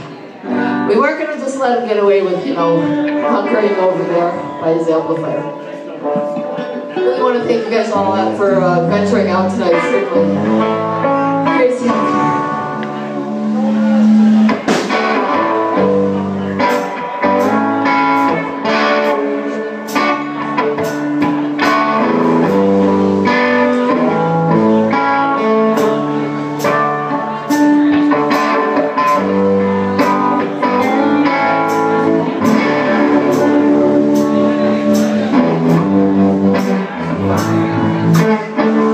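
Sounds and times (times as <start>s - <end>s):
live band guitar music: 0.0s - 38.9s.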